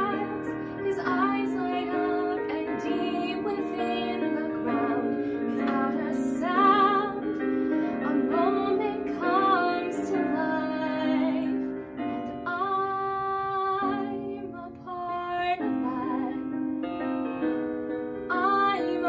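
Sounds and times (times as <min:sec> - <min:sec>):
woman singing: 0:00.0 - 0:16.7, 0:18.3 - 0:19.0
instrumental accompaniment: 0:00.0 - 0:19.0.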